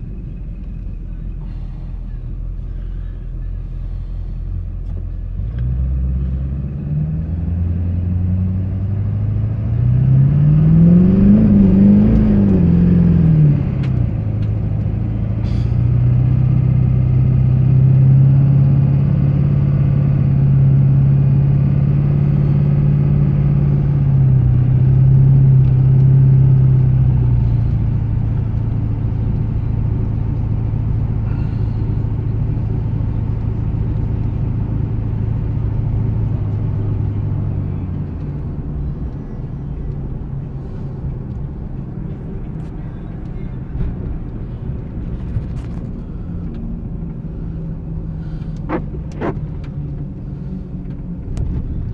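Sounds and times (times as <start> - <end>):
truck engine revving: 0.0 - 51.9.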